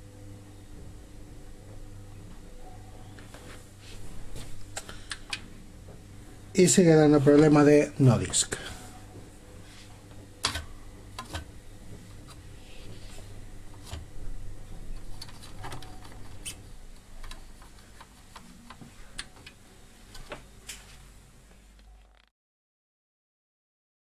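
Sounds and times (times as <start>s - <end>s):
low steady hum: 0.0s - 22.2s.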